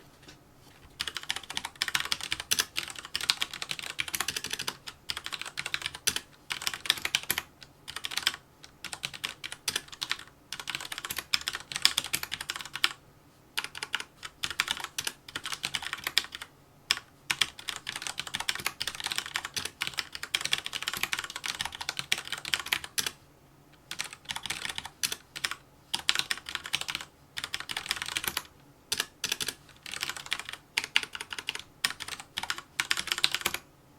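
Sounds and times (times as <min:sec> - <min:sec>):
mechanical keyboard typing: 0:01.0 - 0:13.0, 0:13.6 - 0:23.2, 0:23.9 - 0:33.6.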